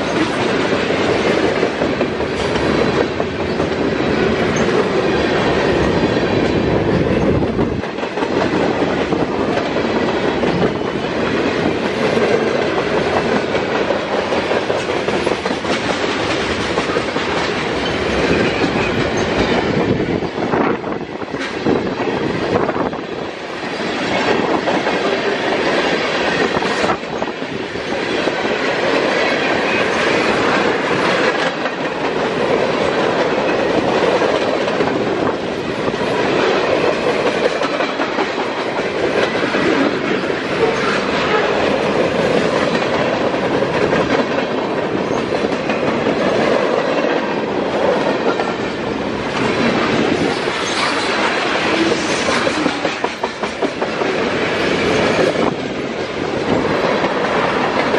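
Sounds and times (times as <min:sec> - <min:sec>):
train rolling rumble: 0:00.0 - 0:57.9
train wheels clacking: 0:00.0 - 0:57.9.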